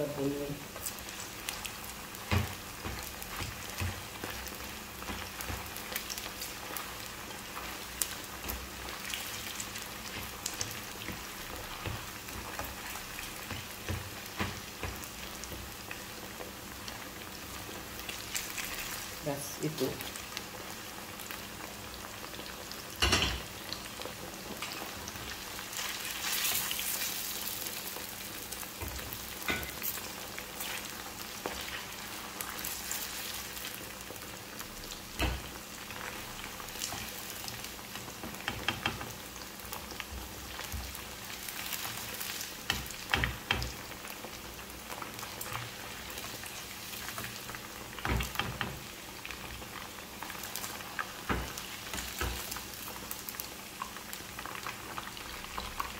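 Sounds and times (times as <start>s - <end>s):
chicken sizzling in hot oil: 0.0s - 55.9s.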